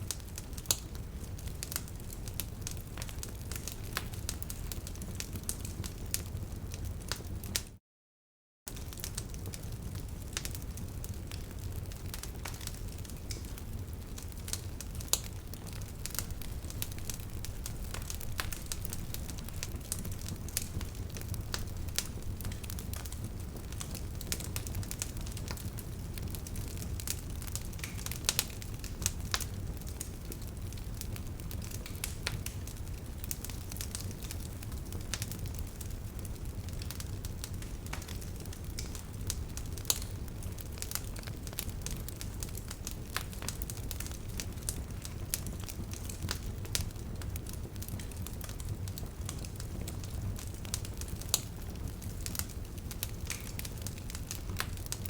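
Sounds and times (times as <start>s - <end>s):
bonfire crackling and popping: 0.0s - 7.6s, 8.7s - 55.0s
low rumble of flame: 0.0s - 7.6s, 8.7s - 55.0s.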